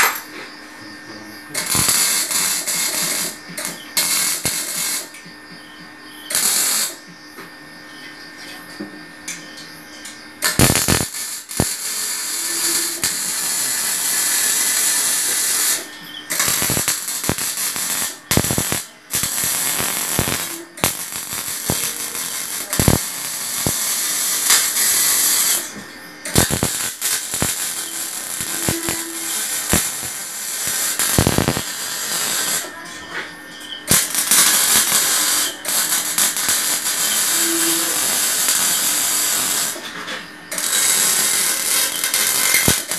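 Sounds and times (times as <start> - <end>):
welding arc crackling: 1.5 - 5.2, 6.3 - 7.0, 10.4 - 32.8, 33.8 - 39.8, 40.5 - 42.9.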